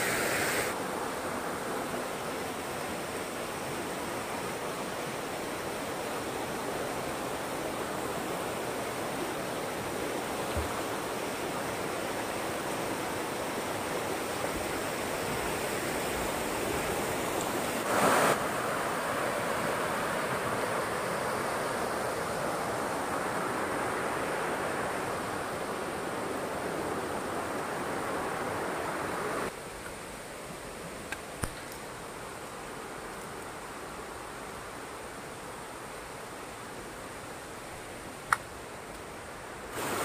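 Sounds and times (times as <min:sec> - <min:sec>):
stream water rushing over rocks: 0:00.0 - 0:40.0.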